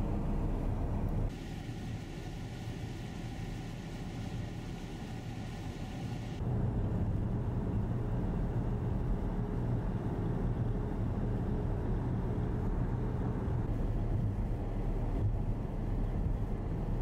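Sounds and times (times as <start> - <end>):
car engine and tyres on snow: 0.0 - 17.0.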